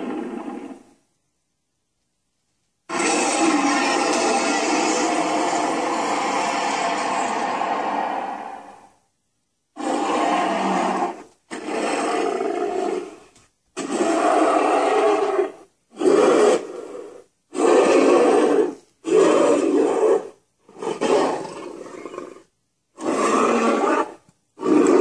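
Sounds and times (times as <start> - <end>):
recorded monster roars: 2.9 - 9.0, 9.8 - 13.2, 13.8 - 25.0.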